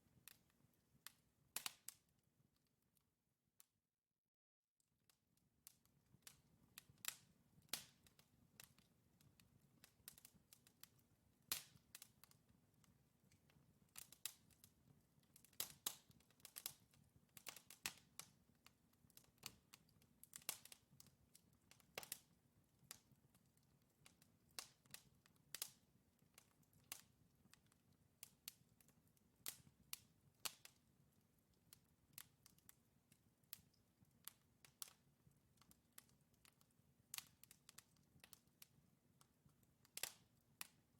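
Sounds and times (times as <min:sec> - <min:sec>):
logs crackling and popping: 0:05.8 - 0:30.9, 0:31.6 - 0:40.8.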